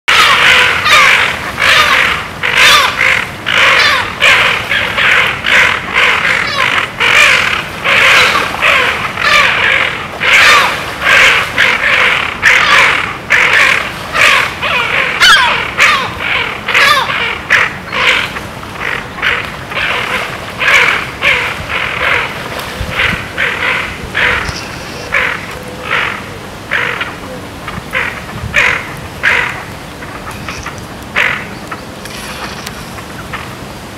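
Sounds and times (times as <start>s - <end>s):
birds calling harshly: 0.1s - 33.7s.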